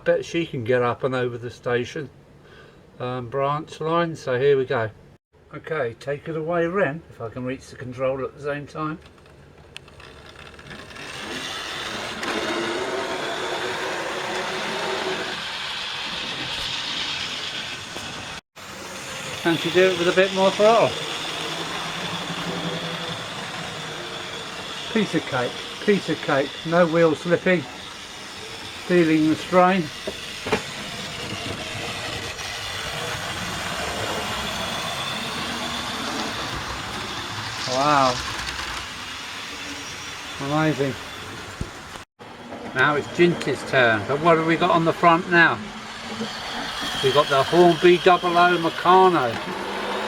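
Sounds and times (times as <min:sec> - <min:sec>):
model train motor whirring: 0:09.0 - 0:42.0, 0:42.8 - 0:50.0.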